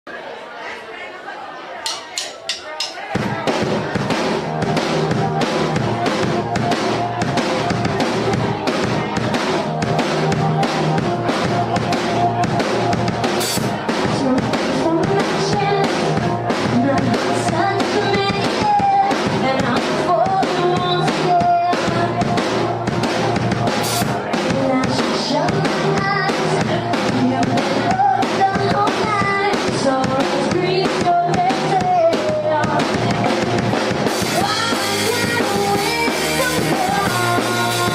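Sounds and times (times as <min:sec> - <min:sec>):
drum kit beat: 0:01.9 - 0:37.9
pop-rock band playing: 0:01.9 - 0:37.9
bass guitar: 0:03.0 - 0:37.9.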